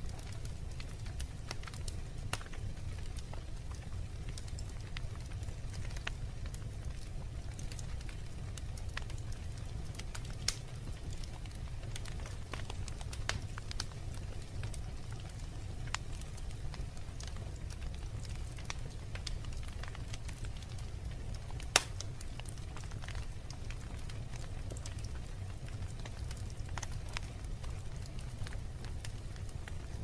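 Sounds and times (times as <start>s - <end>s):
wood fire rumbling and crackling: 0.0s - 30.0s.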